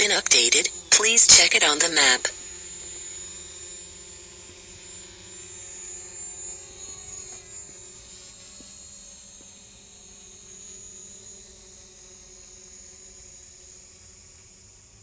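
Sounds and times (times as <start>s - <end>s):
drone propeller whine: 0.0s - 13.7s.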